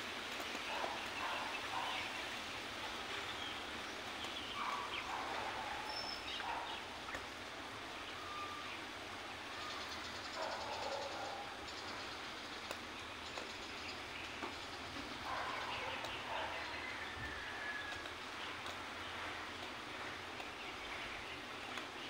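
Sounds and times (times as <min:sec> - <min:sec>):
background hiss: 0:00.0 - 0:22.0
small birds chirping: 0:00.4 - 0:22.0.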